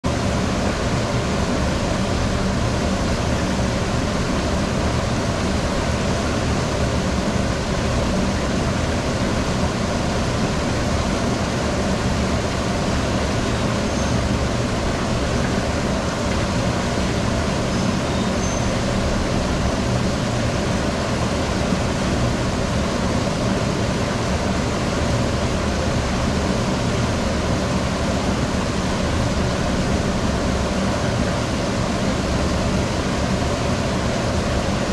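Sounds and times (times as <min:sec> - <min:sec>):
low machine hum: 0:00.0 - 0:34.9
water rushing through channel: 0:00.0 - 0:34.9.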